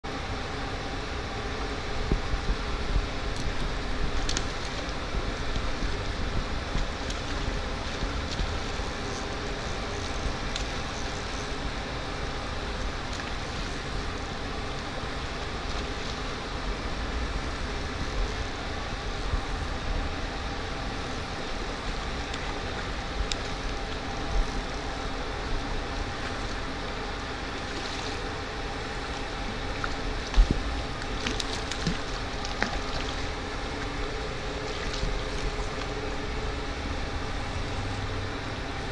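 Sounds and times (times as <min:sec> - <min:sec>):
wind rumble on microphone: 0:00.0 - 0:38.9
stream water rushing: 0:02.7 - 0:38.9.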